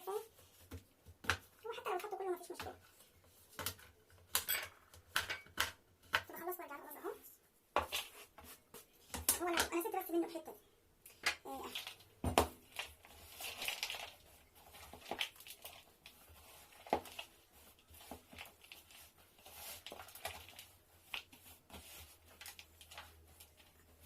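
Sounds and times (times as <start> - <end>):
dough squishing by hand: 0.0 - 24.0.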